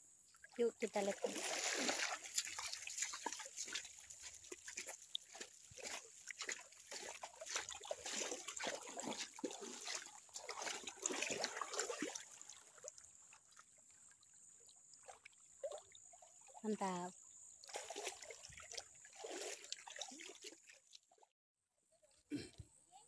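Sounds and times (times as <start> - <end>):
river water splashing: 0.3 - 21.2.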